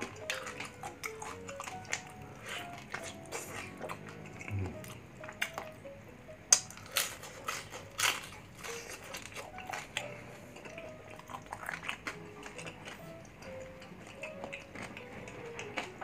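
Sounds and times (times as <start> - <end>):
crunchy pork skin chewing: 0.0 - 5.9, 6.5 - 16.0.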